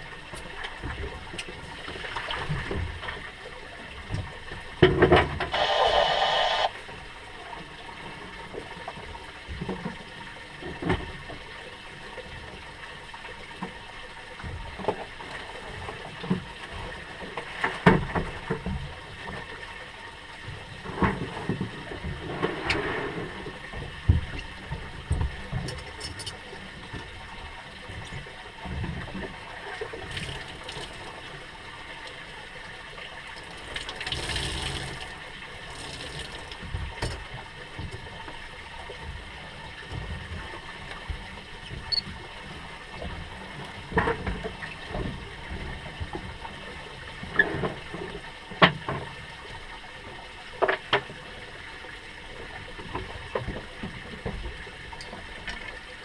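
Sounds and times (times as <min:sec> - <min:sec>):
water lapping against boat hull: 0:00.0 - 0:05.6, 0:06.9 - 0:56.0.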